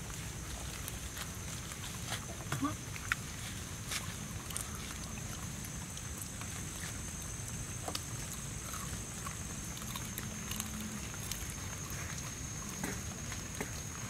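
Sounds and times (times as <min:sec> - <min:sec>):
chewing and crunching: 0:00.0 - 0:14.0
high insect drone: 0:00.0 - 0:14.0.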